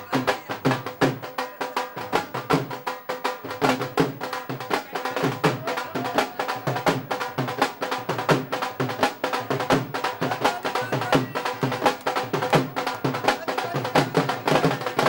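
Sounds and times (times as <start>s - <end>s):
dance music with fast drumming: 0.0s - 15.0s.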